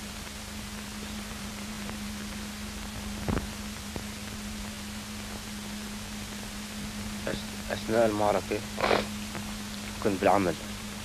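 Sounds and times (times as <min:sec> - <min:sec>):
film soundtrack hiss: 0:00.0 - 0:11.0
low even hum: 0:00.0 - 0:11.0.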